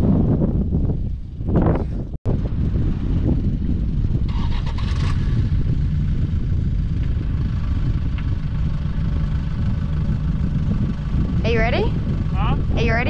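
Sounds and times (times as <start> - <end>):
engine idling: 1.6 - 13.0.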